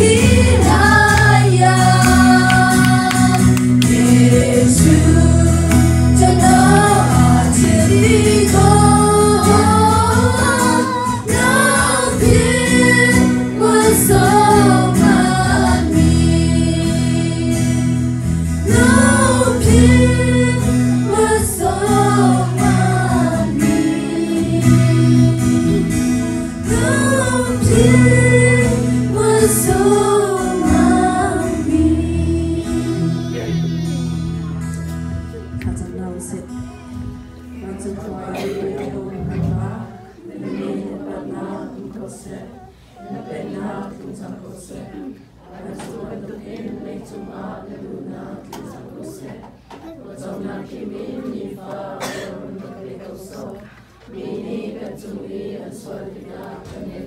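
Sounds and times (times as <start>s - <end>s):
group singing a hymn: 0.0s - 57.0s.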